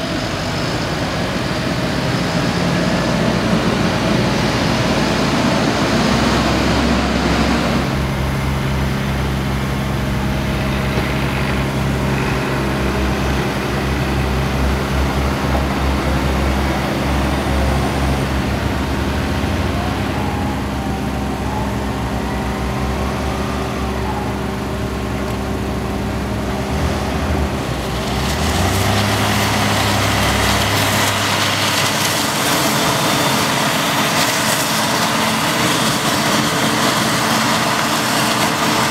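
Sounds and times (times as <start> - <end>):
farm machinery engines running: 0.0 - 38.9.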